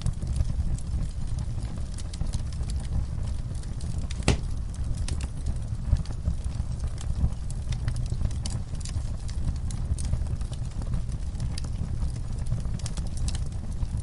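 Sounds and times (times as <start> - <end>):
fire crackling and popping: 0.0 - 14.0
low fire rumble: 0.0 - 14.0.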